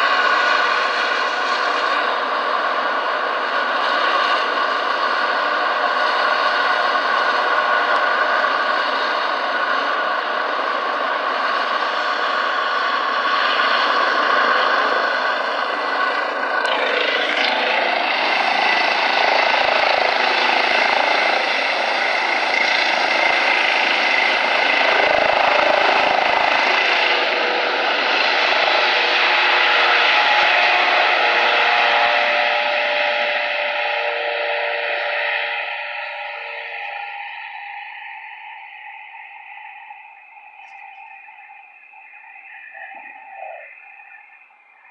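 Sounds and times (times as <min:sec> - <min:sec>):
helicopter turbine and rotor whine: 0:00.0 - 0:44.9.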